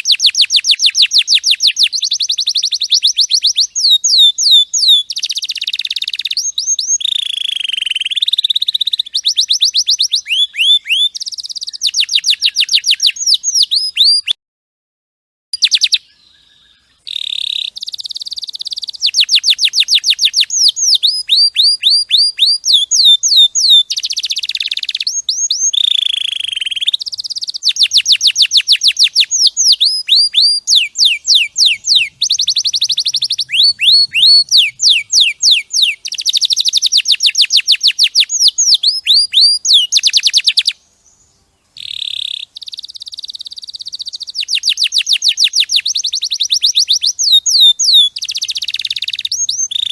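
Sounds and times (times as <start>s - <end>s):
canary singing trills: 0.0s - 14.4s, 15.6s - 49.9s.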